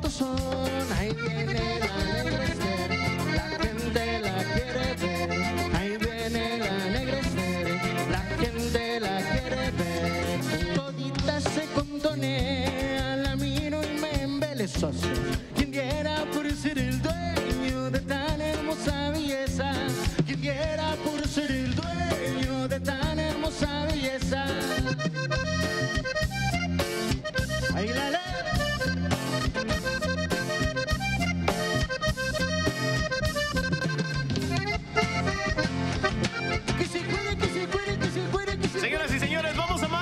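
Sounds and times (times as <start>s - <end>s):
accordion-led latin dance music: 0.0s - 40.0s.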